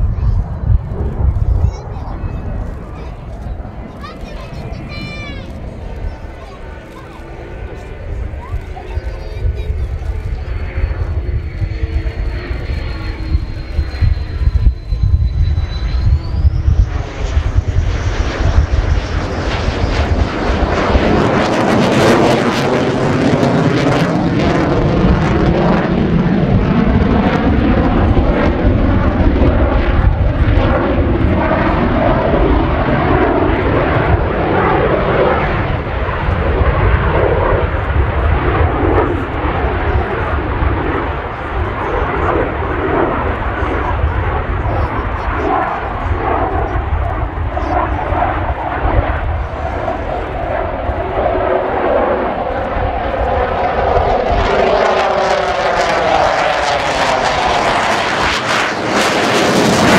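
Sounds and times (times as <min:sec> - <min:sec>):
jet engines passing: 0:00.0 - 0:59.9
rough jet rumble with crackle: 0:00.0 - 0:59.9.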